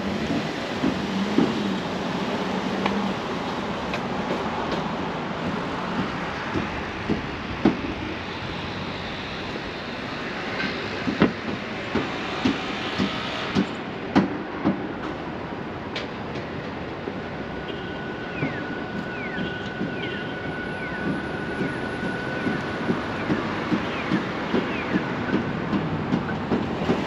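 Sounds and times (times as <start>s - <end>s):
city background noise: 0.0s - 27.0s.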